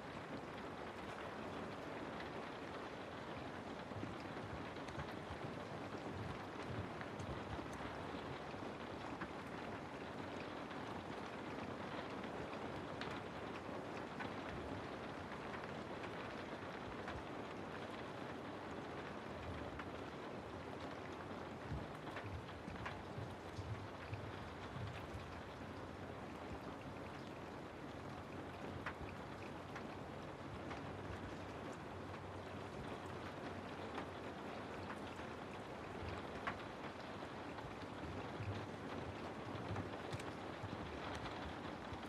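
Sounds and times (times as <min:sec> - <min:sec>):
rain falling through trees: 0:00.0 - 0:42.0
raindrop ticks: 0:00.1 - 0:42.0.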